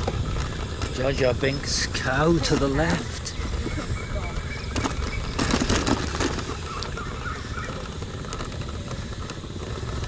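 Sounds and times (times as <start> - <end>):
wind rumbling on microphone: 0.0 - 10.0
insects or frogs chirping: 0.1 - 10.0.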